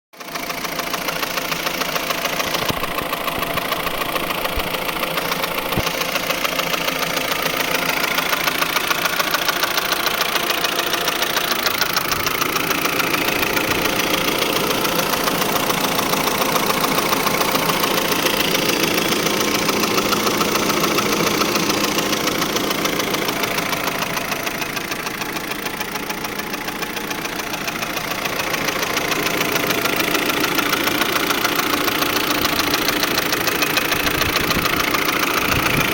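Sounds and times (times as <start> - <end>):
car engine running: 0.2 - 35.9.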